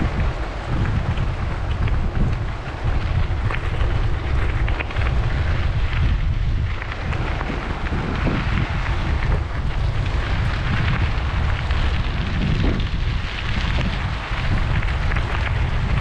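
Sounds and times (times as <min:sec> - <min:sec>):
tyres on gravel: 0:00.0 - 0:16.0
wind buffeting microphone: 0:00.0 - 0:16.0.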